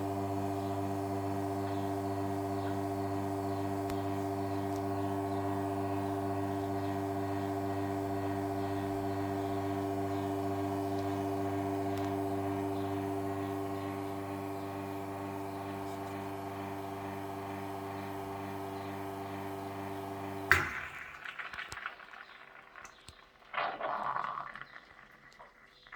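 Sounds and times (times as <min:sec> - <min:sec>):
espresso machine pump humming: 0:00.0 - 0:21.2.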